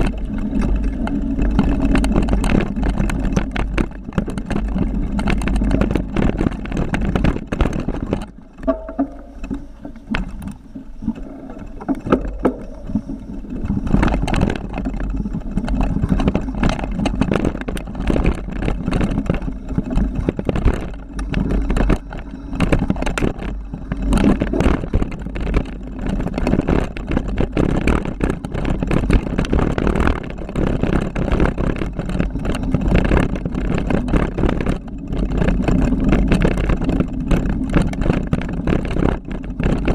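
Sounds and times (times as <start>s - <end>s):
bike rattling and knocking: 0.0s - 39.9s
wind buffeting microphone: 0.0s - 39.9s.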